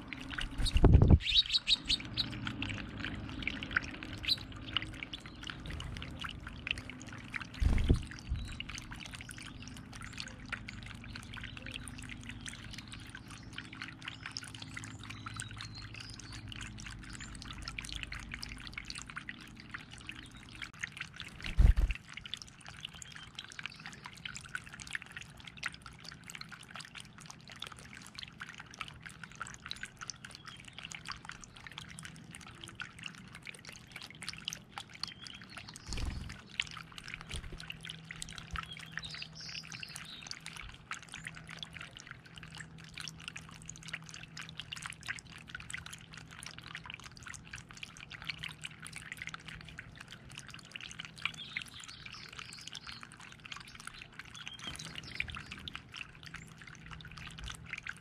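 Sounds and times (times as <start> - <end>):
fountain trickling: 0.0 - 58.0.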